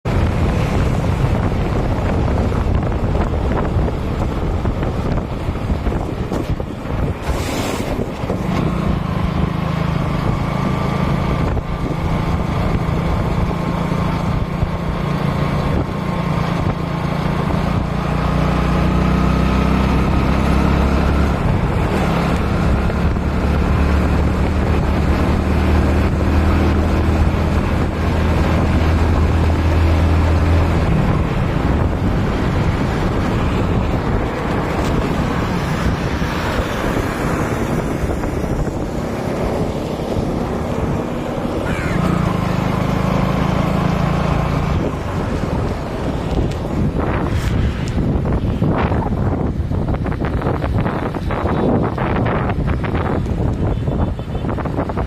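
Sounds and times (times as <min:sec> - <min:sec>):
engine running steadily: 0:00.0 - 0:55.0
wind noise on microphone: 0:00.0 - 0:55.0.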